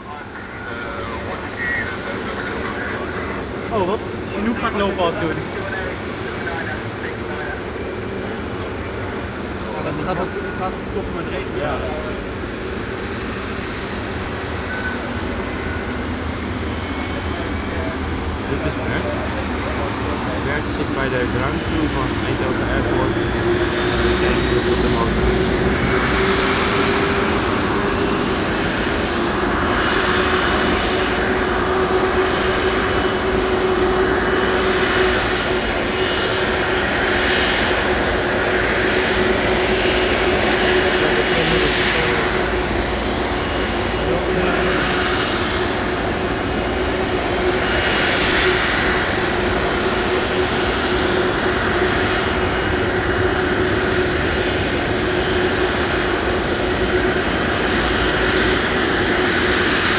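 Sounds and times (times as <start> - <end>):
jet engine hum: 0.0 - 59.9
jet engine rushing: 0.0 - 59.9.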